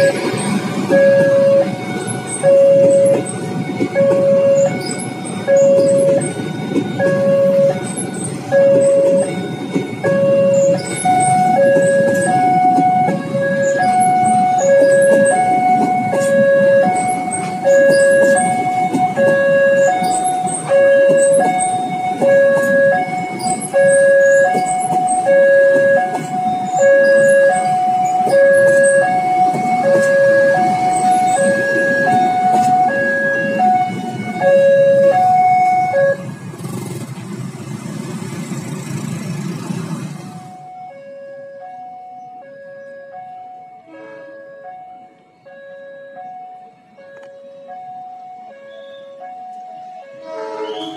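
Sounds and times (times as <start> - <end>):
two-tone crossing alarm: 0.0 - 37.0, 40.1 - 50.9
low traffic rumble: 0.0 - 50.9
train wheels rumbling: 0.0 - 50.9.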